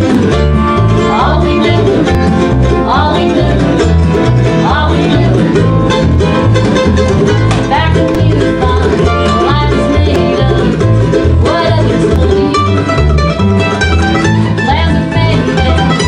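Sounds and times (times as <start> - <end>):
acoustic guitar: 0.0 - 16.0
mandolin: 0.0 - 16.0
upright bass plucking: 0.0 - 16.0.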